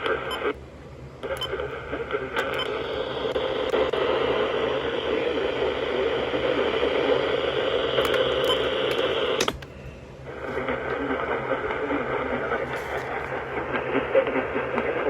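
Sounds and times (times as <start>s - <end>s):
radio static hiss: 0.0s - 9.4s, 10.2s - 15.0s.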